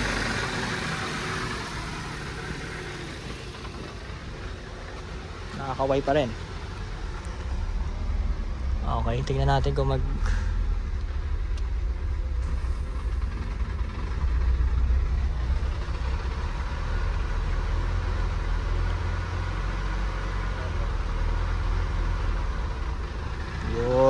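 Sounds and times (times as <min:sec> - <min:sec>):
car engine idling unevenly: 0:00.0 - 0:24.0.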